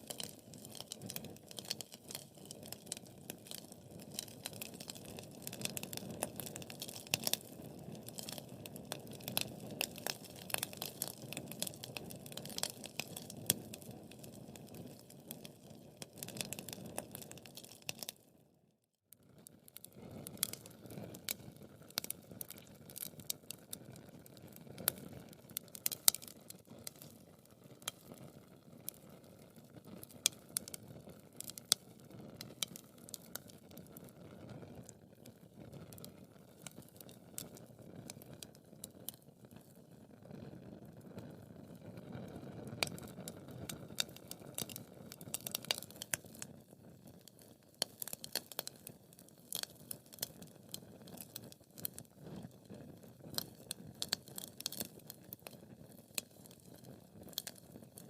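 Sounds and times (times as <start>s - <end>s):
fire pops and snaps: 0.0s - 18.2s, 19.4s - 58.0s
wood fire crackling: 0.0s - 18.2s, 19.4s - 58.0s.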